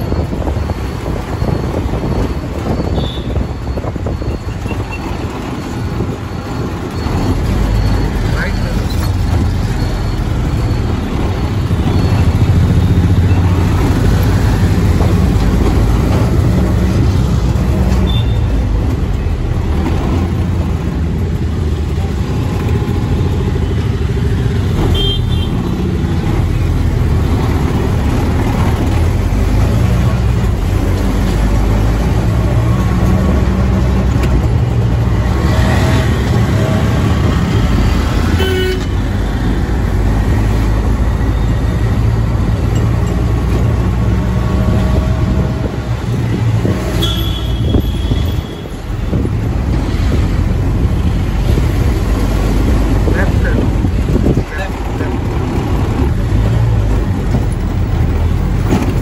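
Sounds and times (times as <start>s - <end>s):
rickshaw engine running: 0.0s - 59.0s
road and traffic noise: 0.0s - 59.0s.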